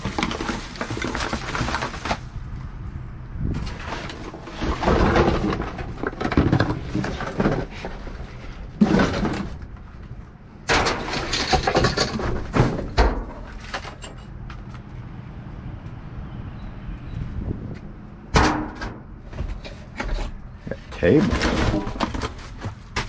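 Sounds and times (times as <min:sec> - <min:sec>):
junk clattering in a dumpster: 0:00.0 - 0:02.5, 0:03.5 - 0:14.7, 0:18.3 - 0:23.0.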